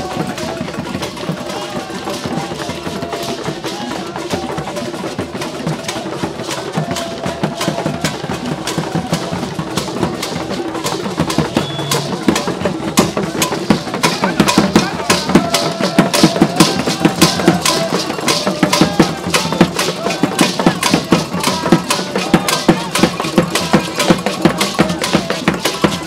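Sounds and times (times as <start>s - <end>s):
hand drums beating: 0.0s - 26.0s
voices singing: 0.0s - 26.0s.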